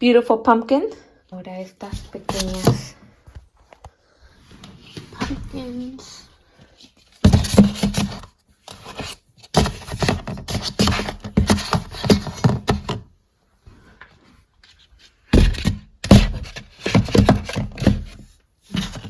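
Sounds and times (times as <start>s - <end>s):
pumpkins rustling and scraping: 1.8s - 19.0s.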